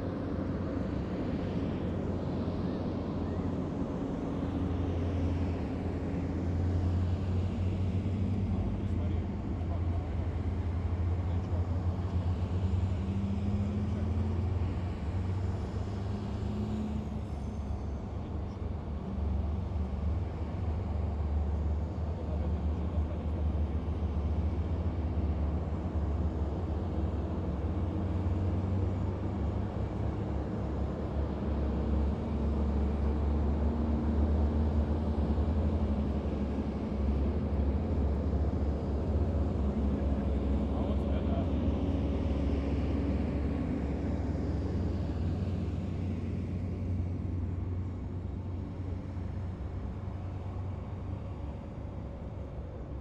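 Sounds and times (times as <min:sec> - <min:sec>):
heavy vehicle engines rumbling: 0:00.0 - 0:53.0.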